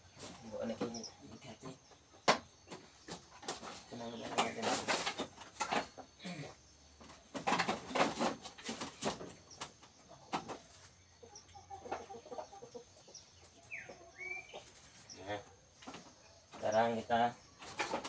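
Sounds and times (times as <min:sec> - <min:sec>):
bird chirp: 0:00.0 - 0:18.0
chickens clucking: 0:00.0 - 0:18.0.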